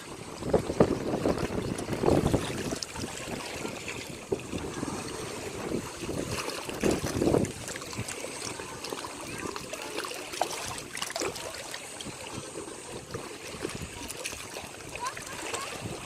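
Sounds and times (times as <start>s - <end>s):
ocean waves washing on shore: 0.0s - 16.0s.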